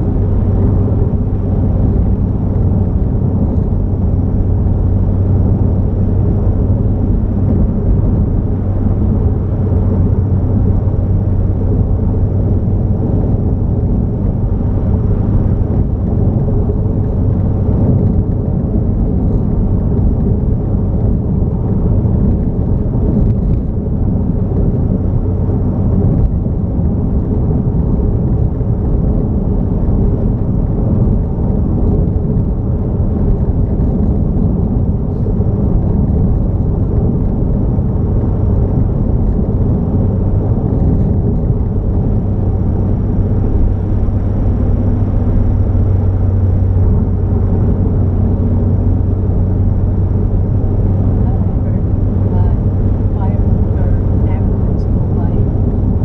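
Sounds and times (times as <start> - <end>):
car engine and road noise: 0.0 - 56.0
low hum: 0.0 - 56.0.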